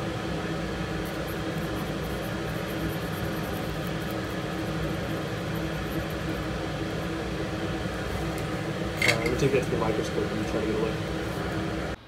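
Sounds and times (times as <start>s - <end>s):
fan-like hum: 0.0s - 12.0s
flux sizzling under soldering iron: 0.0s - 12.0s.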